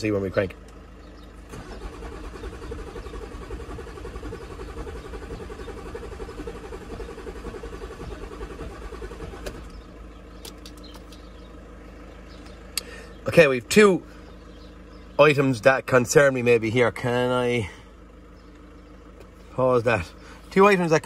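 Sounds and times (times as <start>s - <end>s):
diesel engine cranking: 0.0s - 21.0s.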